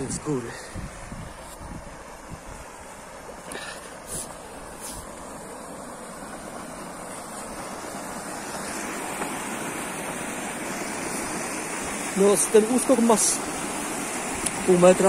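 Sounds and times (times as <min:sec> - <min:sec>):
water rushing over weir: 0:00.0 - 0:15.0.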